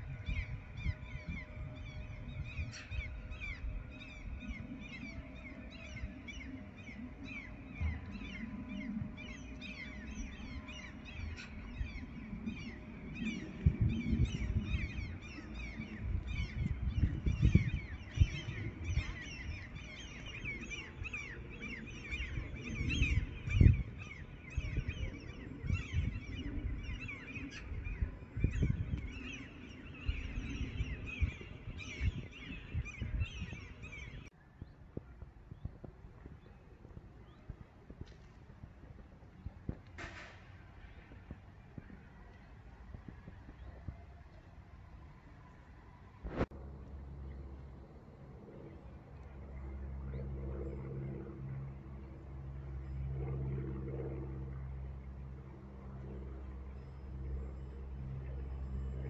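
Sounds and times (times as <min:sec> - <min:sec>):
low rumble in gusts: 0:00.0 - 0:59.0.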